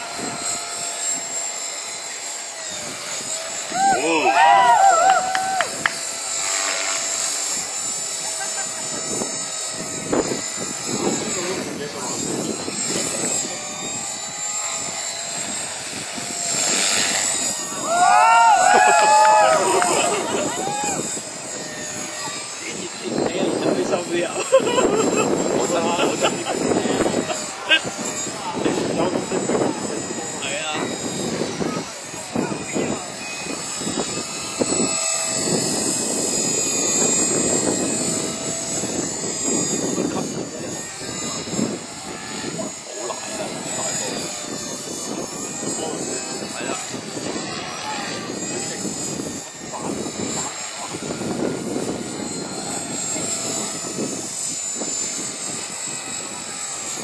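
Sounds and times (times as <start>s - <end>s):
rc helicopter motor whine: 0.0s - 57.0s
rotor blades whooshing: 0.0s - 57.0s.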